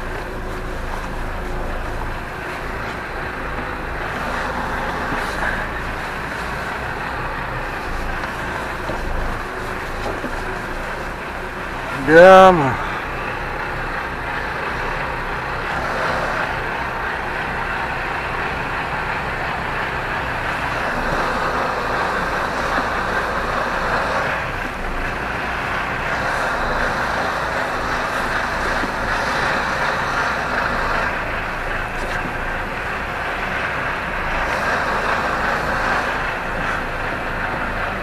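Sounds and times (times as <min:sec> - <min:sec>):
diesel lorry engine running: 0:00.0 - 0:38.0.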